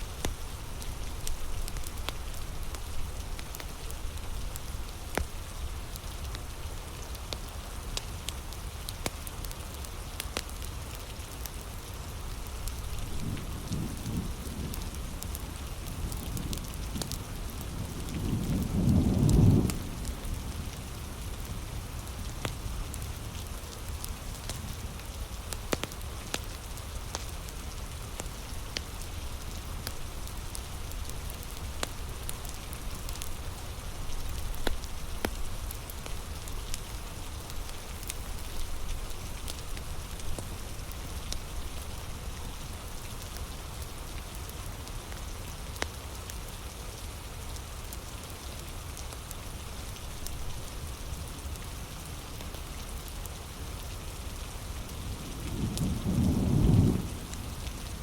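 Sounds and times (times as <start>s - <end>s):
heavy rain falling: 0.0s - 58.0s
wood fire crackling: 0.0s - 58.0s.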